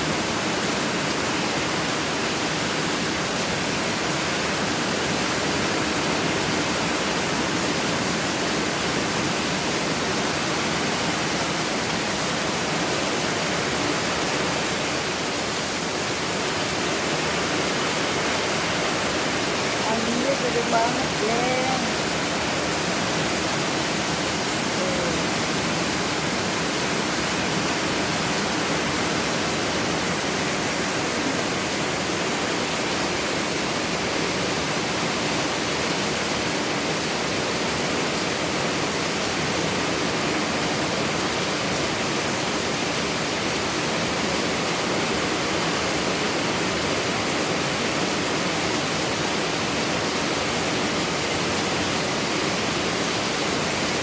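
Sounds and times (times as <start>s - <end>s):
heavy rain in wind: 0.0s - 54.0s.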